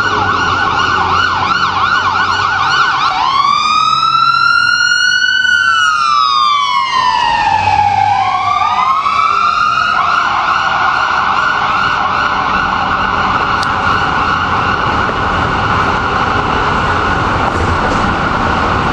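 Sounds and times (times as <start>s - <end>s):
emergency siren wailing and yelping: 0.0s - 18.9s.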